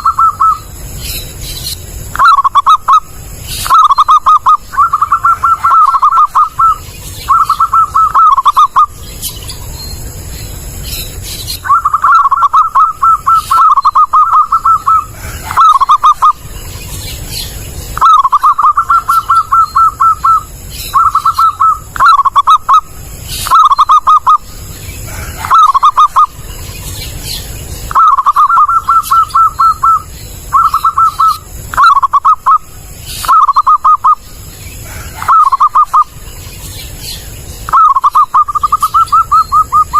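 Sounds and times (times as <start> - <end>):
dove cooing: 0.0 - 0.7, 2.1 - 9.0, 11.5 - 16.6, 17.3 - 27.3, 27.9 - 34.2, 34.8 - 36.3, 37.7 - 39.9.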